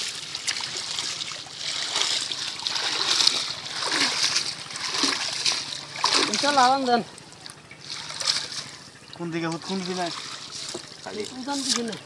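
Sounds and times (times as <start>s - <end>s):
shallow water splashing: 0.0s - 12.0s.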